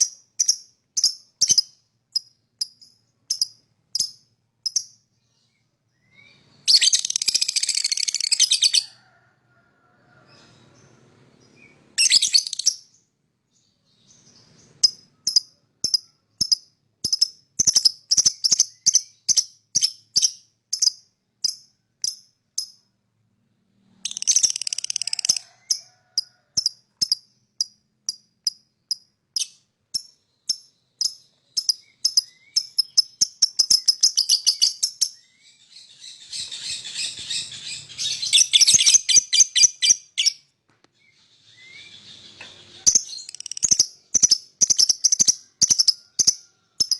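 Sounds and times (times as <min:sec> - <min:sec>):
lovebird chirping: 0:00.0 - 0:09.2, 0:10.3 - 0:23.0, 0:23.6 - 0:46.9.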